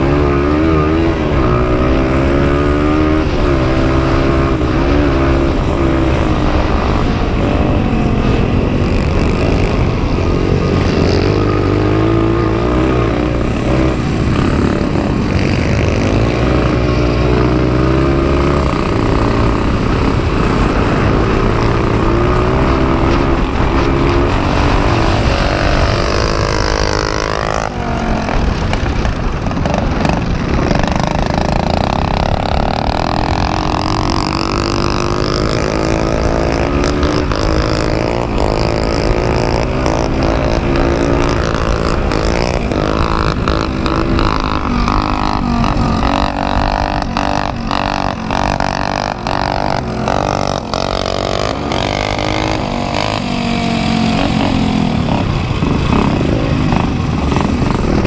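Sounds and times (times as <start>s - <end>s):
dirt bike engine revving: 0.0s - 58.0s
rough track noise: 0.0s - 58.0s
wind noise: 0.0s - 58.0s.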